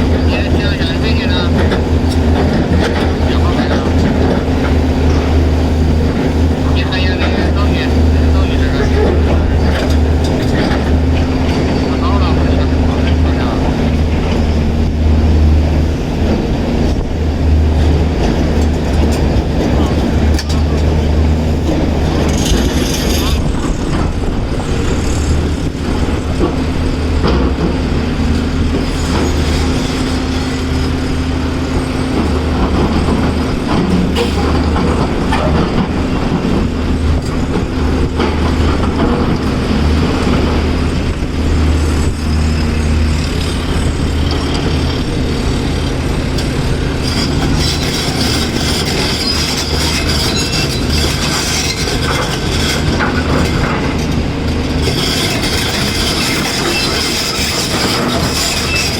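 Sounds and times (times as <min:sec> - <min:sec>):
diesel engine running: 0:00.0 - 0:58.9
metal rattling and clanking: 0:00.0 - 0:58.9.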